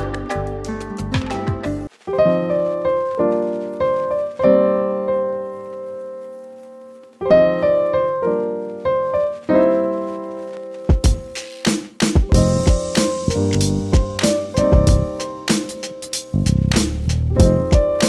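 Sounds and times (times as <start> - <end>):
piano playing chords: 0.0 - 18.0.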